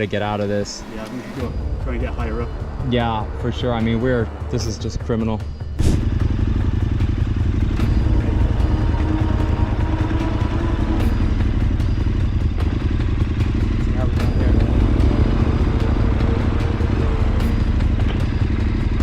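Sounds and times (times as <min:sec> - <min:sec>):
motorcycle engine rumbling: 0:01.4 - 0:19.0.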